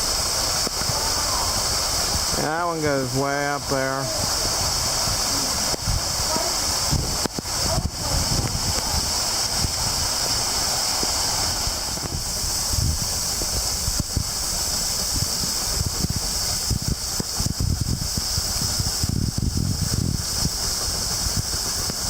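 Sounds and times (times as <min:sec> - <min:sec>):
waterfall pouring: 0:00.0 - 0:22.0
wind buffeting microphone: 0:00.0 - 0:22.0.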